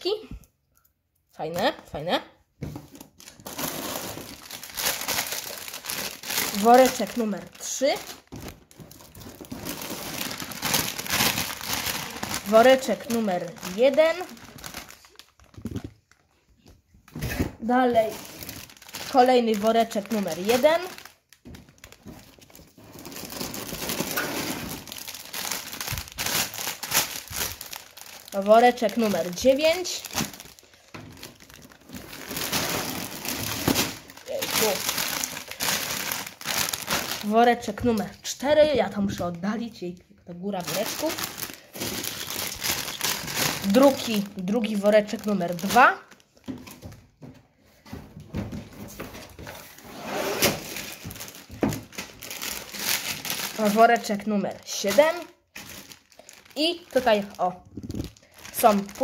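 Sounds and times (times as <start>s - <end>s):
plastic bags crinkling: 2.9s - 16.4s, 17.7s - 47.2s, 50.4s - 59.0s.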